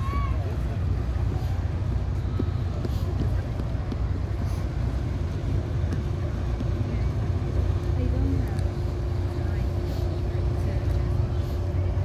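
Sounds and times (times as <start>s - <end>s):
boat engines rumbling: 0.0s - 12.0s
faint voices: 0.0s - 12.0s.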